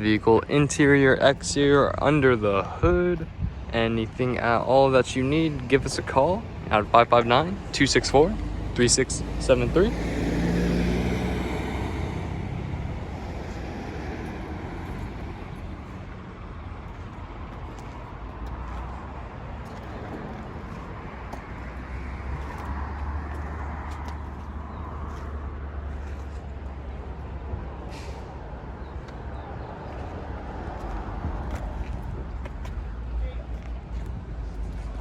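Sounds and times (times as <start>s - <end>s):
passing cars and trucks: 0.0s - 35.0s.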